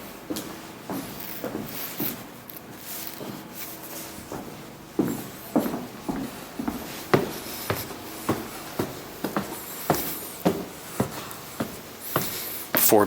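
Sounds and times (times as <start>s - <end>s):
footsteps climbing stairs: 0.0s - 13.0s.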